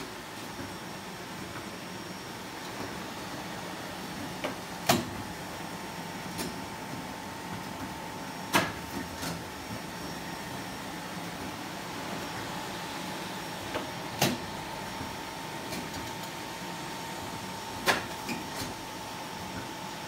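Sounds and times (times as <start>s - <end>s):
laminator humming: 0.0s - 20.0s.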